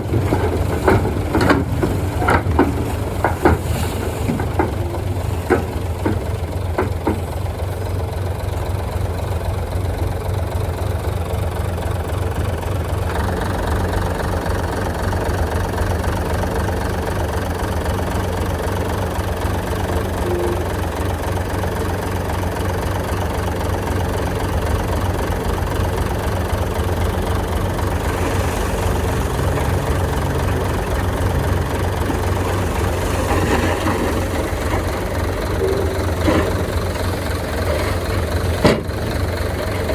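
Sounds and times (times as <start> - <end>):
heavy machine engine humming: 0.0 - 39.9.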